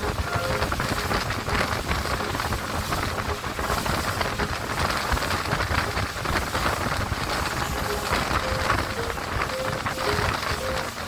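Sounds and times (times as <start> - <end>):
boat wake hiss and spray: 0.0 - 11.0
wind buffeting microphone: 0.0 - 11.0.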